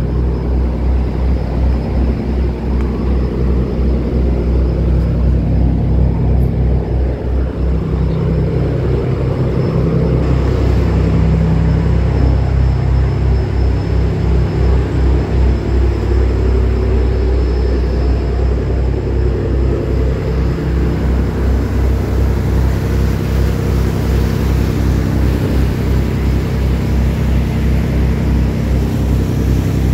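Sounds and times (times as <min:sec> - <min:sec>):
ferry engine droning: 0:00.0 - 0:29.9
rushing water and wind: 0:00.0 - 0:29.9.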